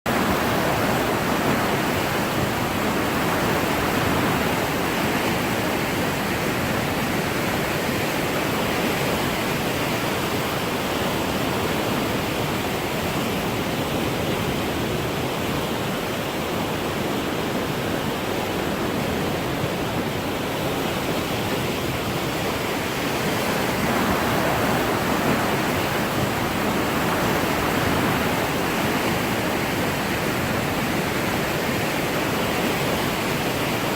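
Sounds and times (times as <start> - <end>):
roar of rushing river water: 0.1 - 33.9.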